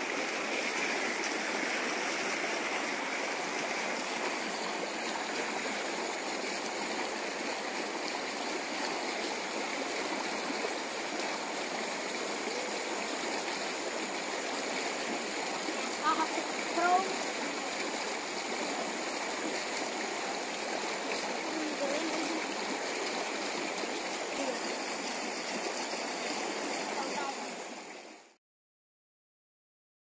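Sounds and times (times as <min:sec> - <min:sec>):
fast-flowing river rushing: 0:00.0 - 0:28.4.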